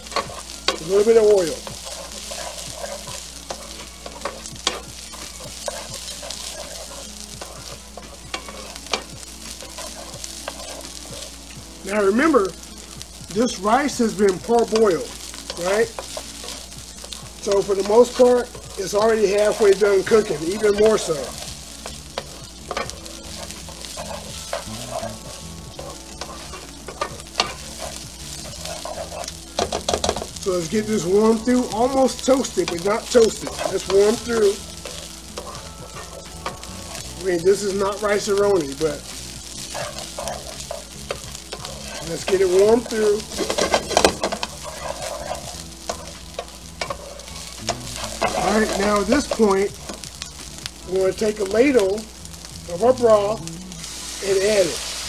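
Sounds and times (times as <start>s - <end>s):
spoon scraping against pan: 0.0s - 50.5s
rice sizzling in oil: 0.0s - 55.0s.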